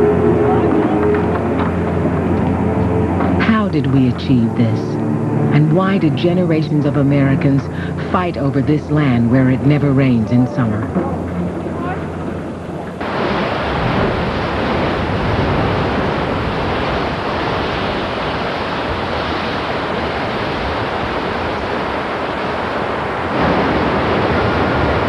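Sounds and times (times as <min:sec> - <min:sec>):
river rapids roaring: 0:00.0 - 0:10.2, 0:10.8 - 0:25.0.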